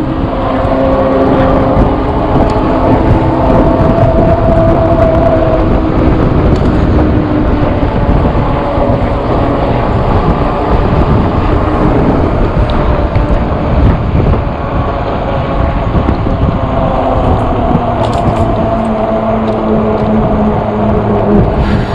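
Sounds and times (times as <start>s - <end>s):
electric motor whine: 0.0s - 21.9s
tyre and road noise: 0.0s - 21.9s
wind buffeting microphone: 0.0s - 21.9s.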